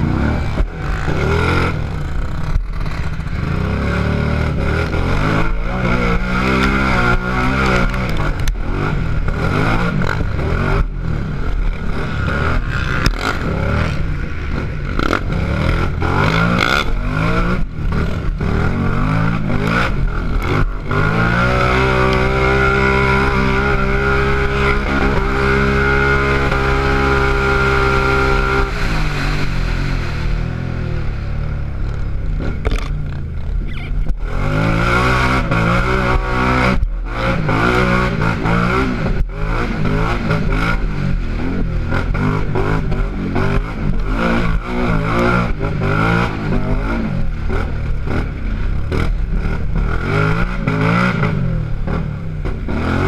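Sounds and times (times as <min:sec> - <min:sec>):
quad engine revving: 0:00.0 - 0:53.0.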